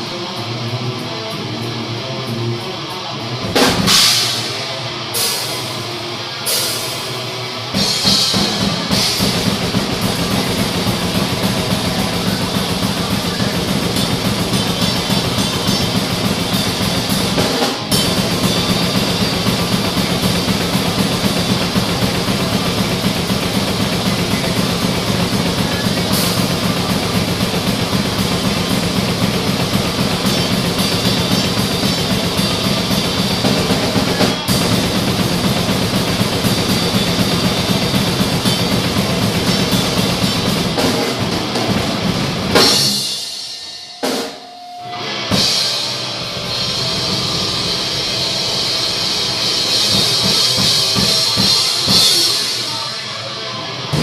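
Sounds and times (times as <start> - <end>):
drum kit playing rapidly: 0.0 - 54.0.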